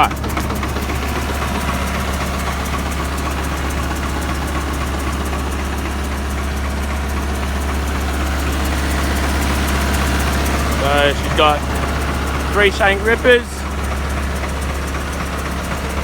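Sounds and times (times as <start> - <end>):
bulldozer diesel engine idling: 0.0 - 16.0.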